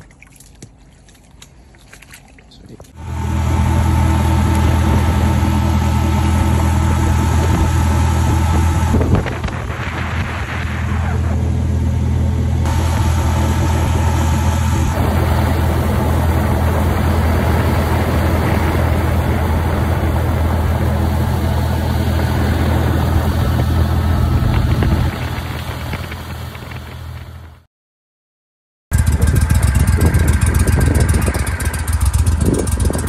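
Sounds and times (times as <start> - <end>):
outboard motor running: 0.0 - 27.7, 28.9 - 33.0.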